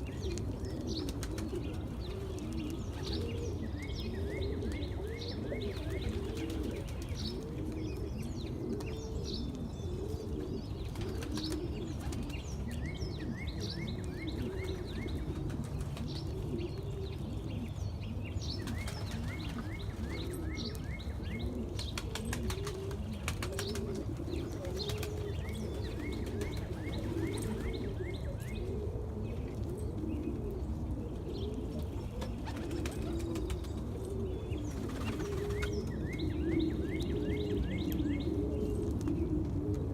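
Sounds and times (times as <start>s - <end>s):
birds cooing: 0.0s - 39.9s.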